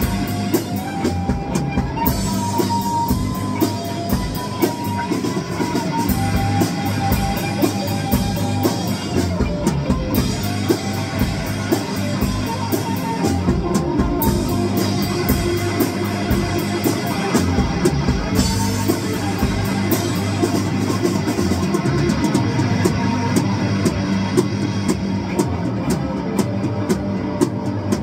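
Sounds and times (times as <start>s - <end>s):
drum kit fast beat: 0.0s - 28.0s
electric guitar: 0.0s - 28.0s.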